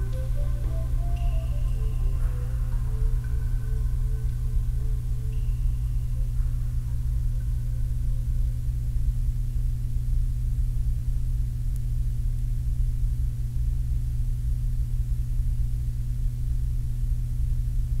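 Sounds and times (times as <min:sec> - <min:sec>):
low held tones humming: 0:00.0 - 0:18.0
tape hiss: 0:00.0 - 0:18.0.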